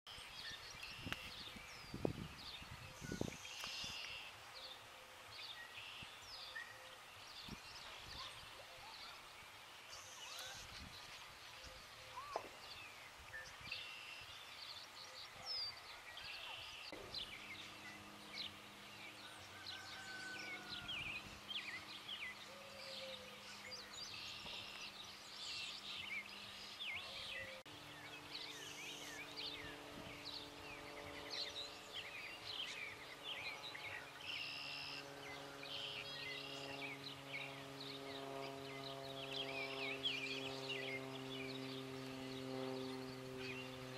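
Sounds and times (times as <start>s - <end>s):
birds chirping and trilling: 0.1s - 43.9s
faint low drone: 0.1s - 43.9s.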